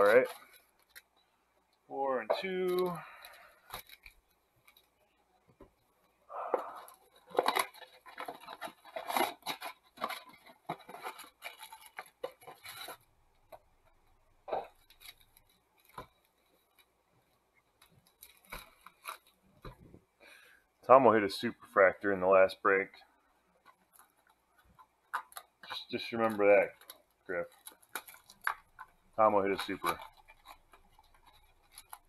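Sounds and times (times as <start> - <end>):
crinkling of wrappers and cardboard: 0.0 - 1.3, 2.1 - 20.5, 23.4 - 32.0.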